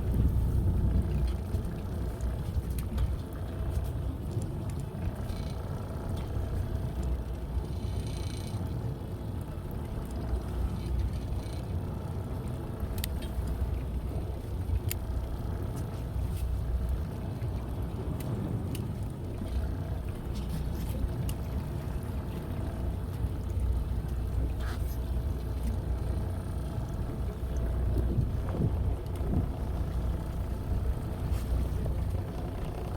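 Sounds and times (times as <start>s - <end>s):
boat engine rumbling: 0.0s - 32.9s.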